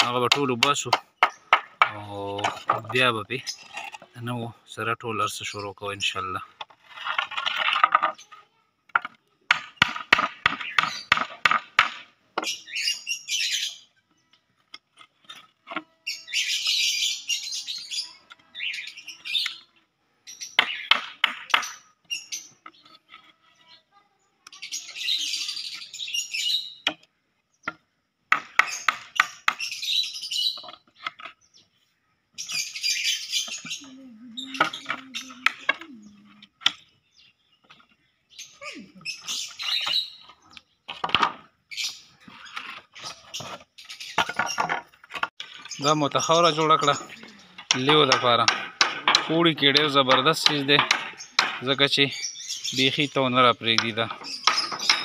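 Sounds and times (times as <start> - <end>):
lovebirds chattering and screeching: 0.0 - 55.0.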